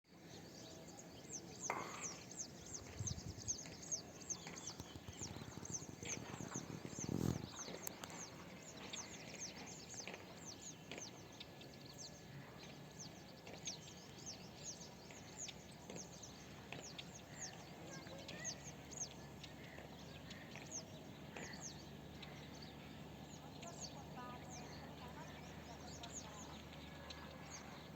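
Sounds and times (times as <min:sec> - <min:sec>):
birds chirping: 0:00.2 - 0:27.9.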